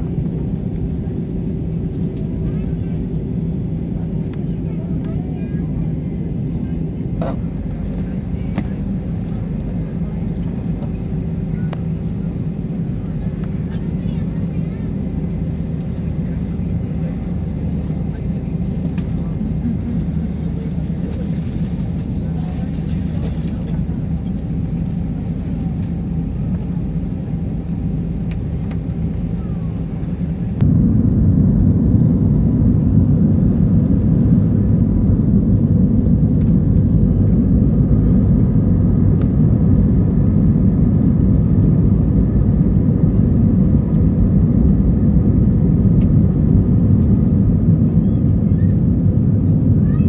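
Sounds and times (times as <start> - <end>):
jet airliner taxiing rumble: 0.0 - 50.0.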